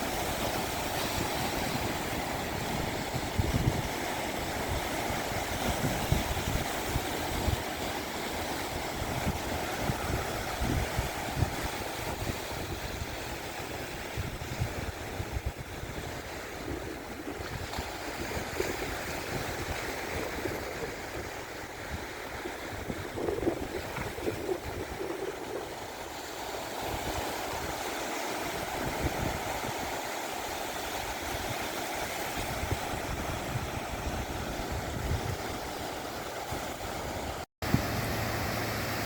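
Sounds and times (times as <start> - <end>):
surf washing onto shore: 0.0 - 39.0
wind buffeting microphone: 0.0 - 39.0.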